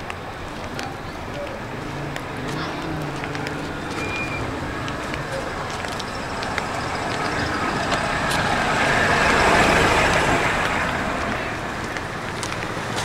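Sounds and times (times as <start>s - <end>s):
motor vehicle passing: 0.0s - 13.0s.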